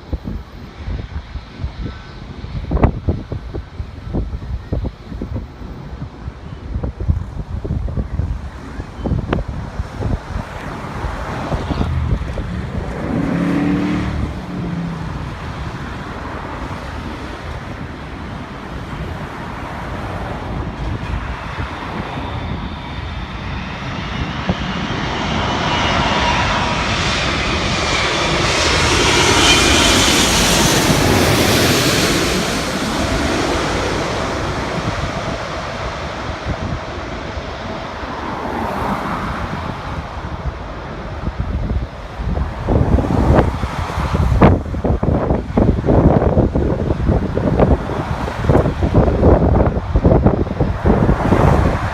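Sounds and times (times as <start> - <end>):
jet airliner flying past: 0.0 - 51.9
wind buffeting microphone: 0.0 - 51.9.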